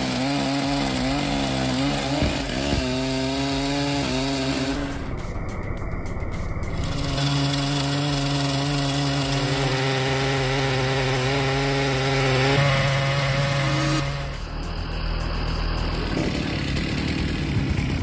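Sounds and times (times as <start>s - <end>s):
chainsaw cutting wood: 0.0s - 5.3s, 6.7s - 18.0s.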